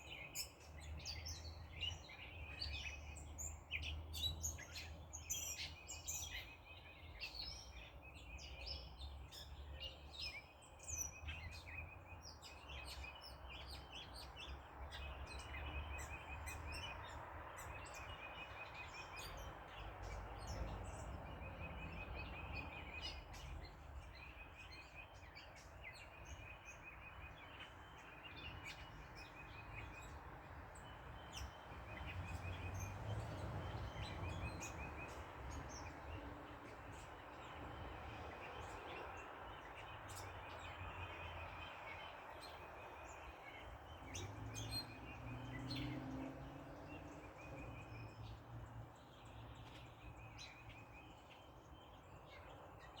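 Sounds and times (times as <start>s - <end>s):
distant road traffic rumble: 0.0s - 53.0s
small birds chirping: 0.0s - 53.0s.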